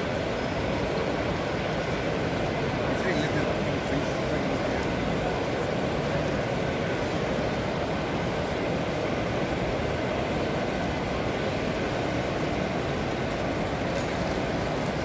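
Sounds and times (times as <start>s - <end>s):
busy exhibition hall din: 0.0s - 15.0s.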